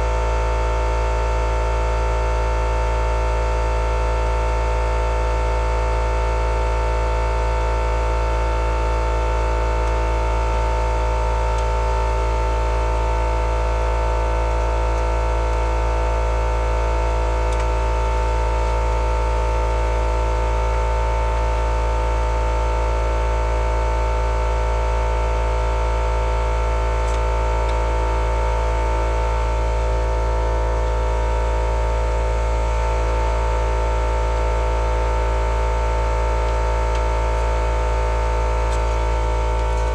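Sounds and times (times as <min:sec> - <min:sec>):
loud steady hum with low drone: 0:00.0 - 0:39.9.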